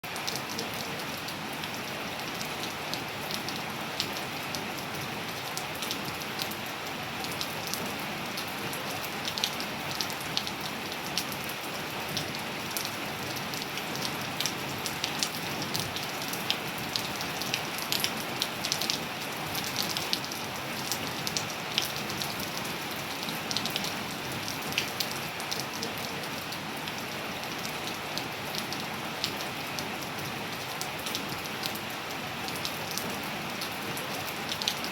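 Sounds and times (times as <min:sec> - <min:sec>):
steady rain with drop impacts: 0:00.0 - 0:34.9.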